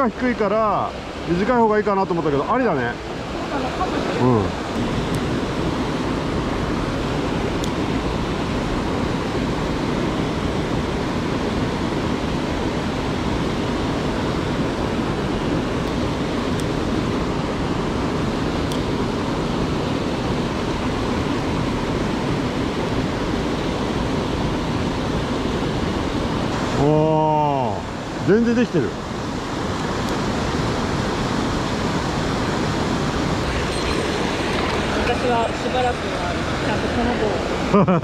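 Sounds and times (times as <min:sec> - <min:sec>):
mountain stream rushing: 0:00.0 - 0:38.0.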